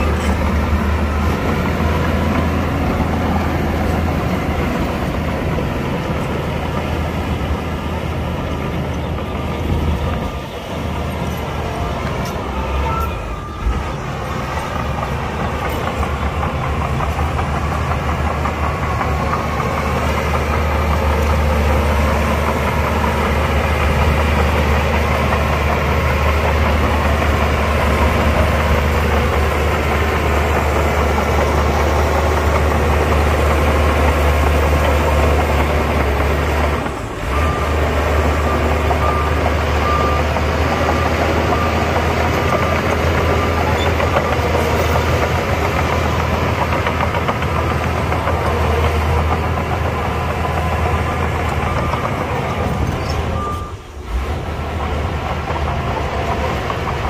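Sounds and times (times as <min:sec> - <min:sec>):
heavy diesel engine rumbling: 0:00.0 - 0:57.0.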